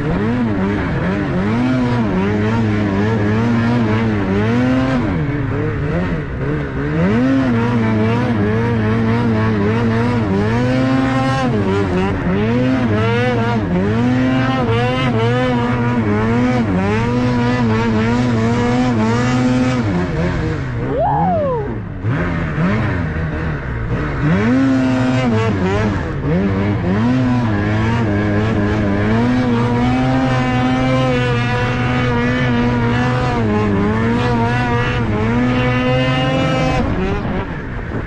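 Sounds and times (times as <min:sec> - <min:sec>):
snowmobile engine revving: 0:00.0 - 0:38.0.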